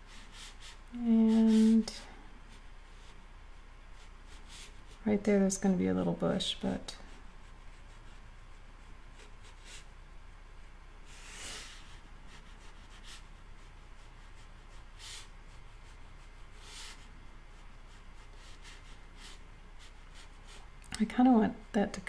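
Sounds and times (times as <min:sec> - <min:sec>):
paintbrush swishing on paper: 0:00.0 - 0:05.8, 0:06.4 - 0:20.8.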